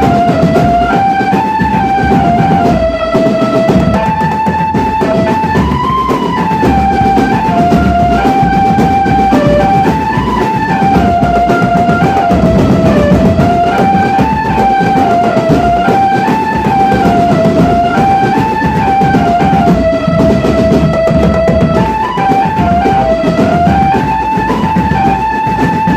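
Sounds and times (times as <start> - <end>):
dense drumming: 0.0 - 25.9.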